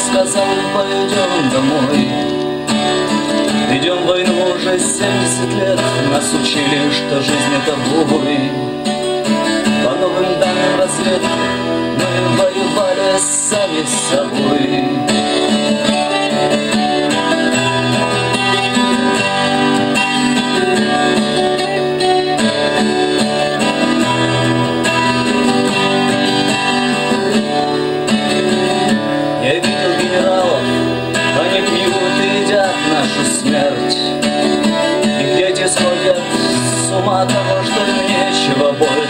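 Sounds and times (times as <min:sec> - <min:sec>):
acoustic guitar strummed: 0:00.0 - 0:39.0.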